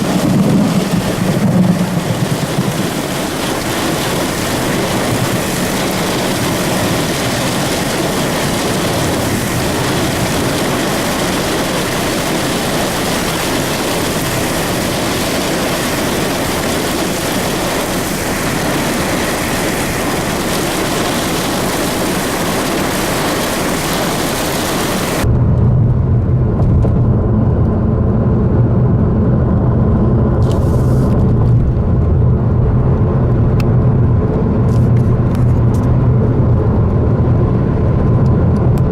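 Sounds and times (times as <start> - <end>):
gusty storm wind: 0.0 - 38.9
low rumble: 0.0 - 38.9.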